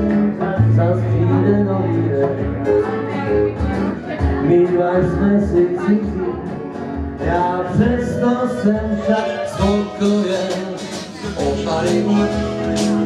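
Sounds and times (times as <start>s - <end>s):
person singing: 0.0s - 13.0s
strummed acoustic guitars: 0.0s - 13.0s.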